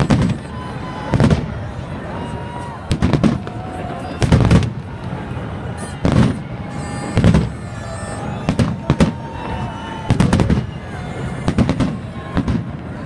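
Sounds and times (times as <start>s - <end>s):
fireworks bursting bangs: 0.0s - 13.0s.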